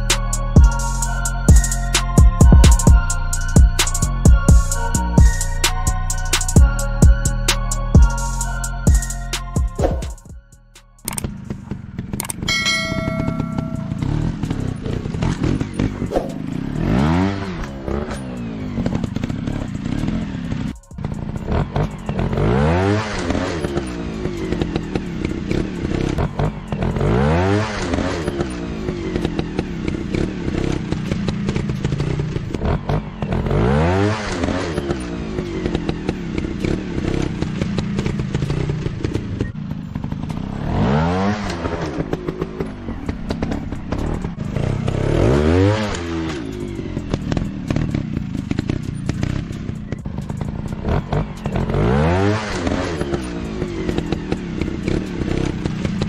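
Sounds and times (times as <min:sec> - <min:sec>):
motorcycle engines revving: 0:00.0 - 0:10.4, 0:11.0 - 0:56.0.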